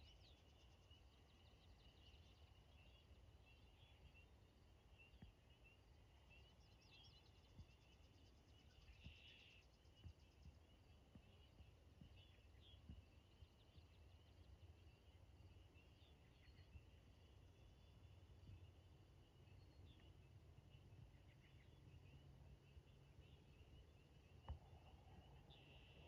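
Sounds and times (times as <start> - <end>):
birds chirping: 0.0 - 26.0
distant frogs: 0.0 - 26.0.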